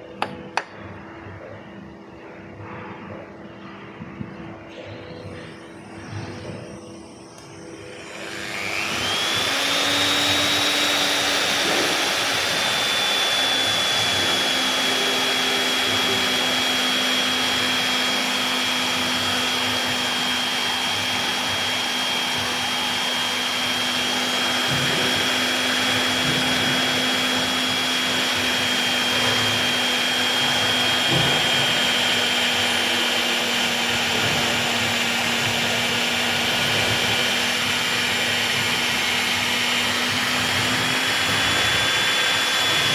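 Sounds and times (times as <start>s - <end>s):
electric drill whining: 5.2s - 42.9s.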